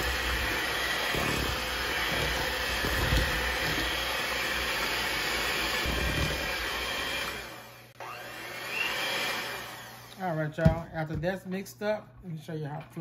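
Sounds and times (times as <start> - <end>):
electric hand mixer whirring: 0.0 - 10.8.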